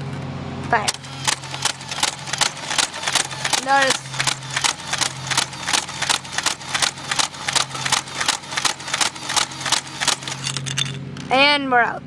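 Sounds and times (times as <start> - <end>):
motor drive hum: 0.0 - 12.0
toy dart blaster firing: 0.8 - 11.4.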